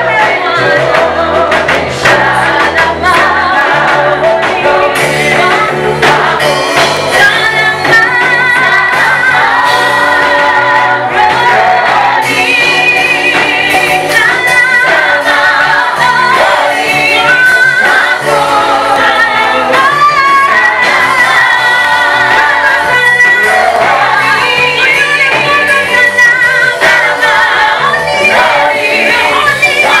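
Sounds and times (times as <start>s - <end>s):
choir singing gospel song: 0.0s - 30.0s
instrumental accompaniment: 0.0s - 30.0s.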